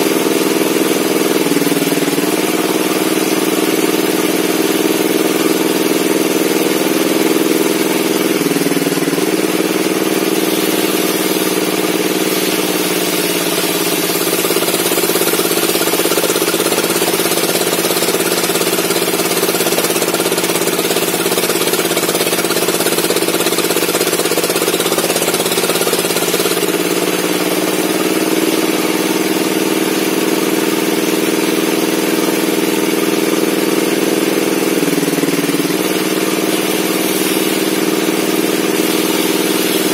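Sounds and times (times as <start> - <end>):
table saw running: 0.0 - 39.9.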